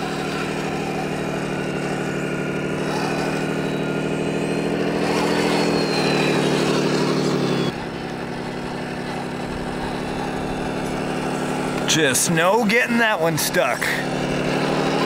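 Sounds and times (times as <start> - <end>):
simulated truck engine from speaker: 0.0 - 15.0.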